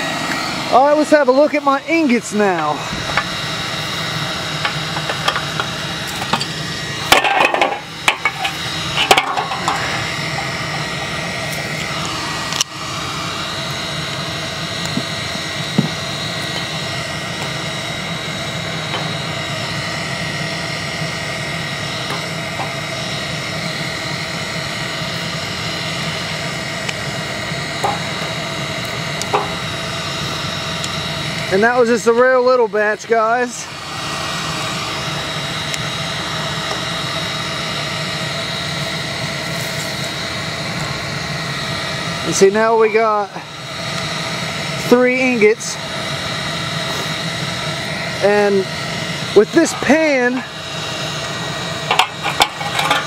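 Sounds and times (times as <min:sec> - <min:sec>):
air blower humming and whining: 0:00.0 - 0:53.0.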